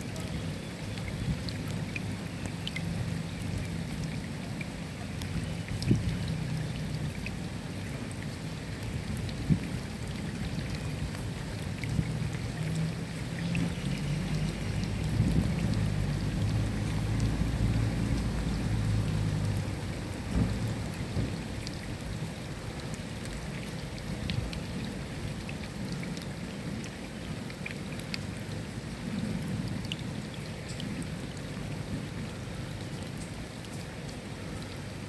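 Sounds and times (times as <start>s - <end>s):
raindrops ticking on a surface: 0.0s - 35.0s
steady rain: 0.0s - 35.0s.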